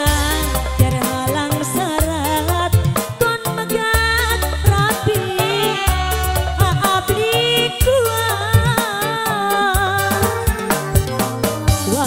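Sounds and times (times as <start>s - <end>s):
woman singing: 0.0s - 10.8s
bass: 0.0s - 12.0s
drum beats: 0.0s - 12.0s.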